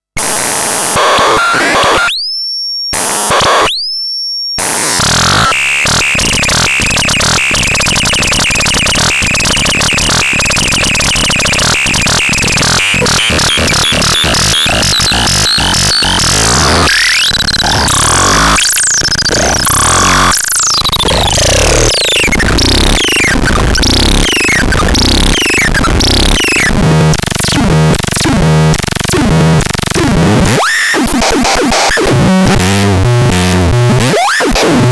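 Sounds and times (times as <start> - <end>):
glitchy stuttering electronic noise: 0.2 - 2.1, 3.0 - 3.7, 4.6 - 34.9.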